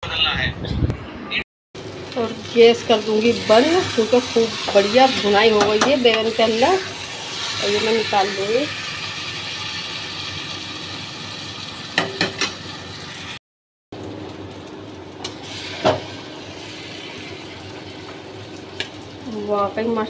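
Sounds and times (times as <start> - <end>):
steady kitchen hum: 0.0 - 20.0.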